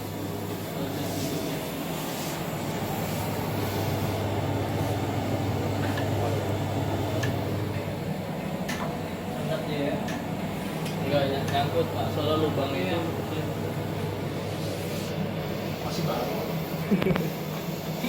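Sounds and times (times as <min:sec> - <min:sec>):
laboratory equipment humming: 0:00.0 - 0:18.0.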